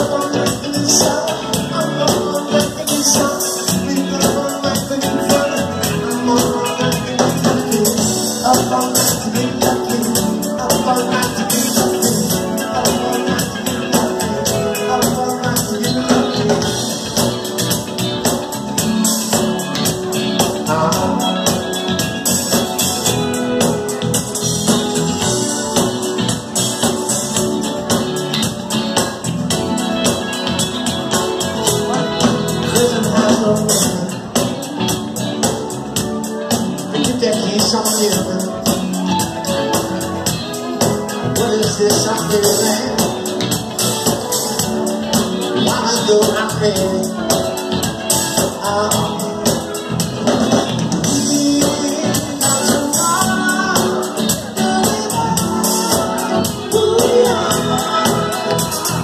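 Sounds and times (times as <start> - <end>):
live band playing: 0.0 - 59.0
steady drum beat: 0.0 - 59.0.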